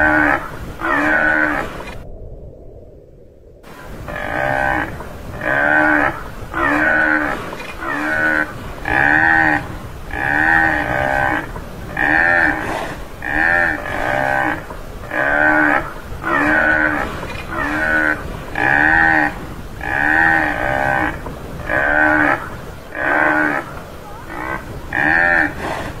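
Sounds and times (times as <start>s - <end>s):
buffalo calling: 0.0s - 2.0s, 3.9s - 26.0s.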